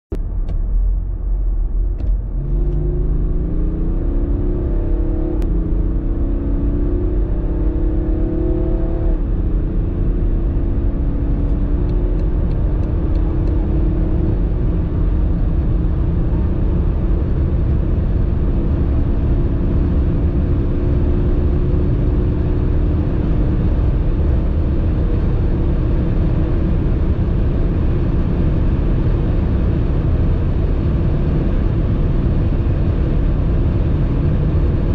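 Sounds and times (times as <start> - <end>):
diesel engine accelerating: 0.1 - 34.9
wind and tyre noise: 0.1 - 34.9.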